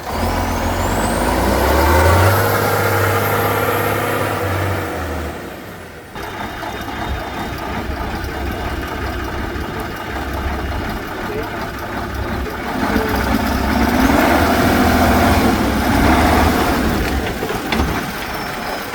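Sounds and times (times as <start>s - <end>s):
rough engine rumble: 0.0s - 18.9s
truck engine running under load: 0.0s - 18.9s.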